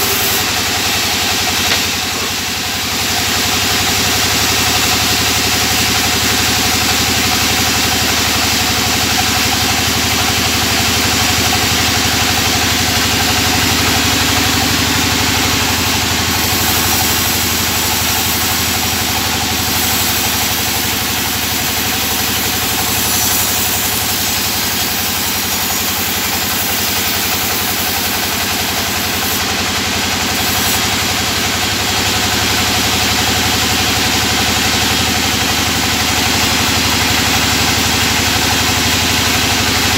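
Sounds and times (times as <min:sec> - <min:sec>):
band saw mill sawing timber: 0:00.0 - 0:39.9.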